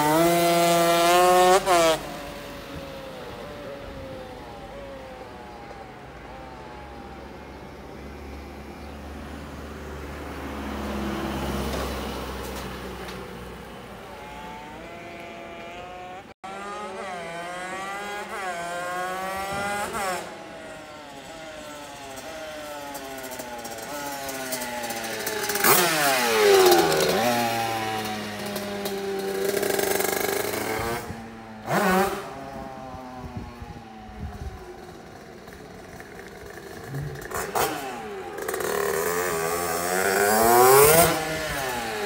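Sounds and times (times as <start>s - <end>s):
motorbike accelerating through gears: 0.0s - 42.0s
motorbike passing by: 0.0s - 42.0s.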